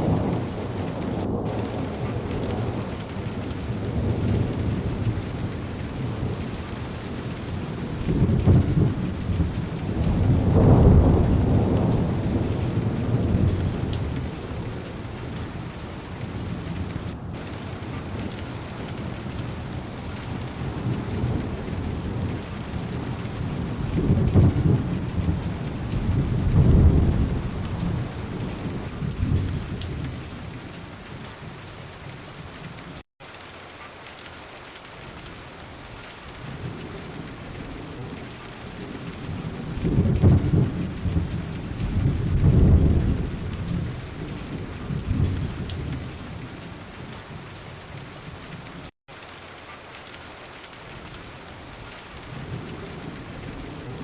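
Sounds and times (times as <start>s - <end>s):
rolling thunder: 0.0s - 33.0s, 36.4s - 48.9s
heavy rain on car window: 0.0s - 54.0s.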